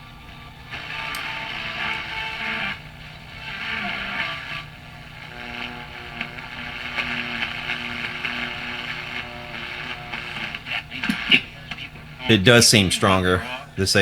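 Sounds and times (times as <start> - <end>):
radio hum: 0.0 - 14.0
radio static hiss: 0.0 - 14.0.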